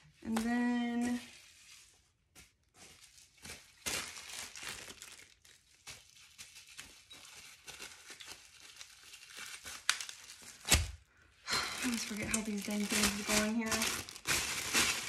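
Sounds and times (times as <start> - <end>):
plastic wrapping crinkling: 0.1 - 15.0.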